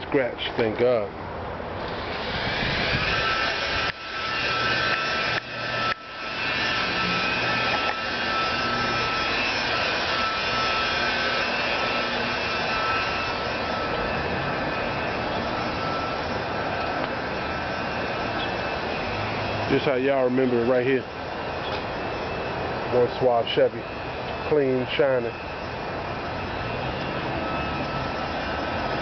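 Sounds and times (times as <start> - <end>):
machine rushing hum and whine: 0.0 - 29.0.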